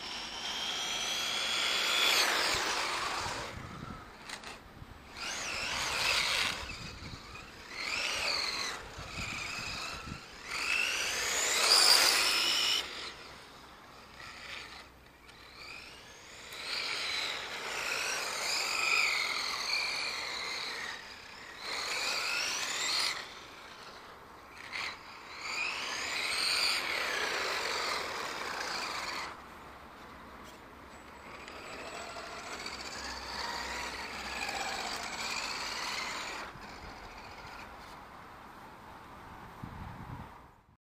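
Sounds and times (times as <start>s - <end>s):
toy car motors whining: 0.0s - 38.0s.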